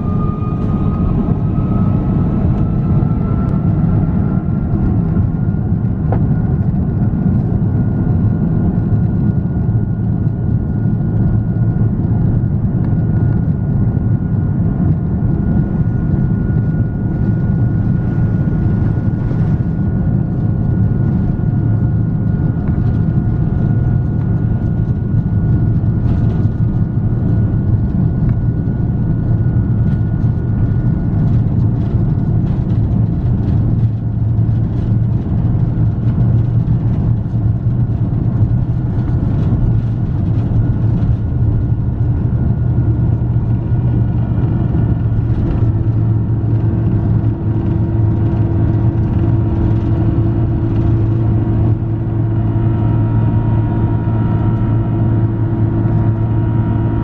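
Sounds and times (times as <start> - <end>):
jet engines at takeoff thrust: 0.0 - 57.0.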